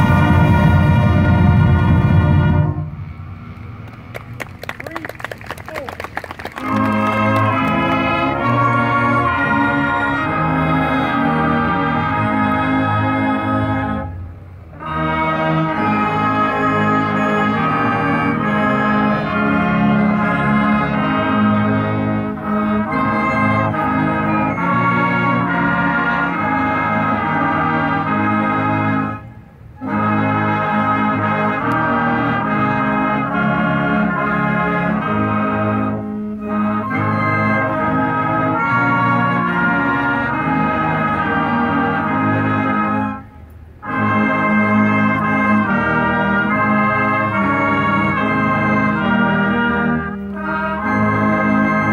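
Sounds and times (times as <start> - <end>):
brass band playing held chords: 0.0 - 51.9.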